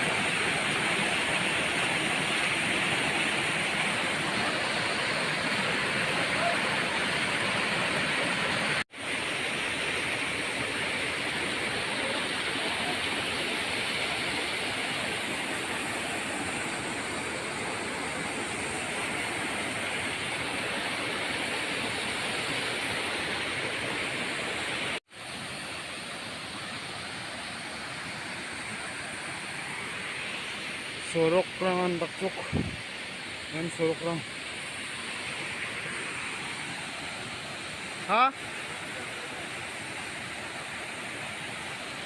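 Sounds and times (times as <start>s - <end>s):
water rushing in heavy rain: 0.0s - 42.0s.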